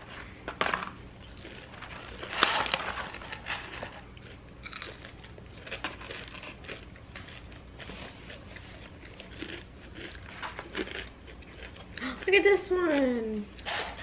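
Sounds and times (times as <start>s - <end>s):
fries being chewed and crunched: 0.0s - 14.0s.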